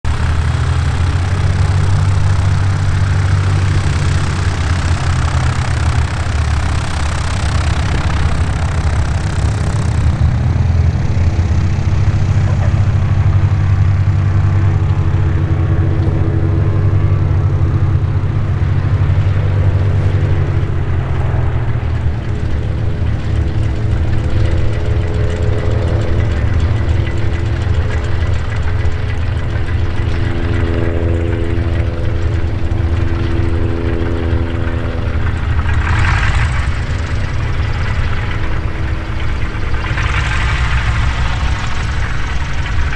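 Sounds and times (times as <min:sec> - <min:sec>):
radial engine and propeller running: 0:00.0 - 0:42.9.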